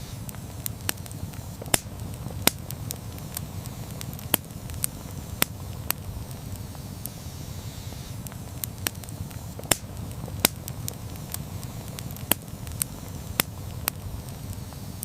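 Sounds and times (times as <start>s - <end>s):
campfire crackling and popping: 0.0s - 15.0s
flames rumbling: 0.0s - 15.0s.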